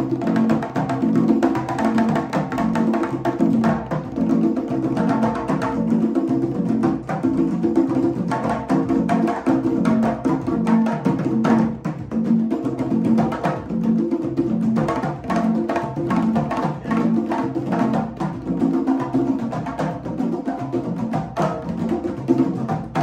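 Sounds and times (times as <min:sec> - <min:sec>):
conga drums played by hand: 0:00.0 - 0:23.0.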